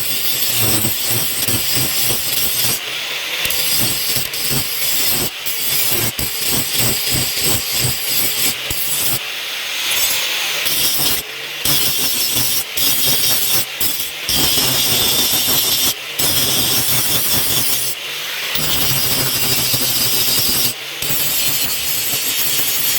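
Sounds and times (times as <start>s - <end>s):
steel rasping on knife blade: 0.0s - 2.8s, 3.5s - 9.2s, 9.9s - 18.0s, 18.6s - 22.9s.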